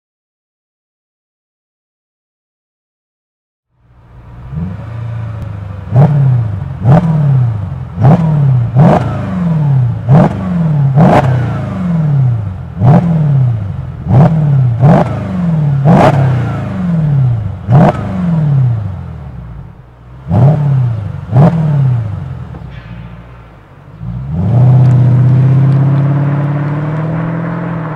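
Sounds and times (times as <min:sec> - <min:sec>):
car engine revving: 0:03.8 - 0:27.9.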